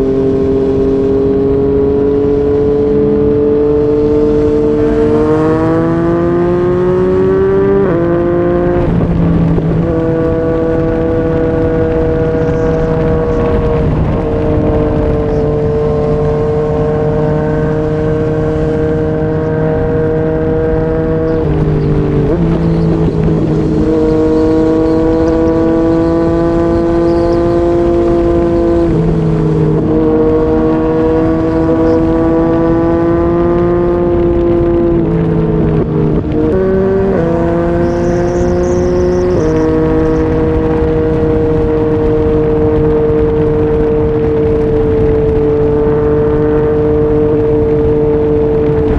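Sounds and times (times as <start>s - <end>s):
motorcycle engine at highway speed: 0.0s - 48.9s.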